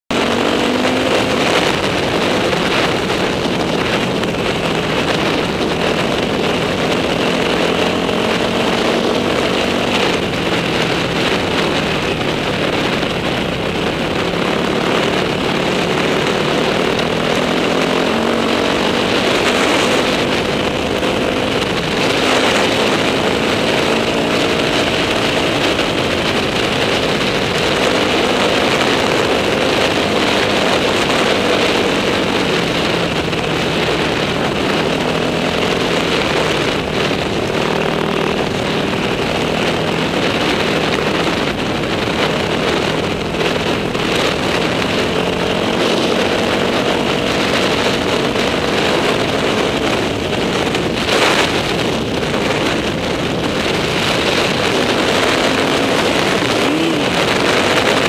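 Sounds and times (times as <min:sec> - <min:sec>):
dirt bike engine running: 0:00.1 - 0:58.0.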